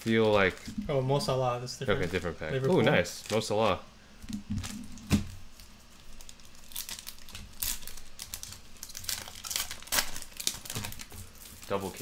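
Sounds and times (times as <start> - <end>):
sharp foil crackle: 0.0 - 3.8, 4.6 - 12.0
foil wrappers crinkling: 0.0 - 12.0.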